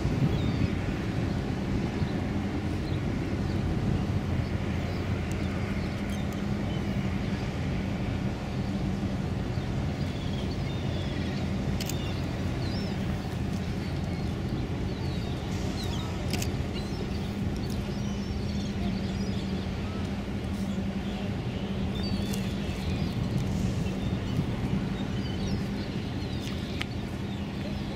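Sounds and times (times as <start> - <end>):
ship diesel engines droning: 0.0 - 27.9.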